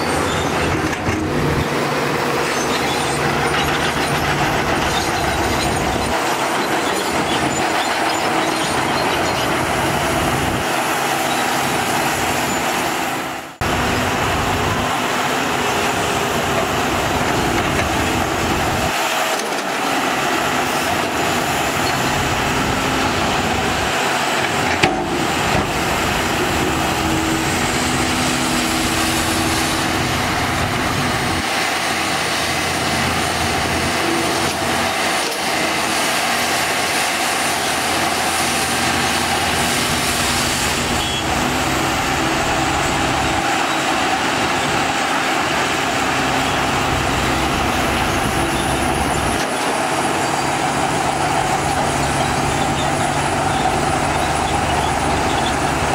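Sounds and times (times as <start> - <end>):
diesel excavators running: 0.0 - 55.9
dump truck engines running: 0.0 - 55.9.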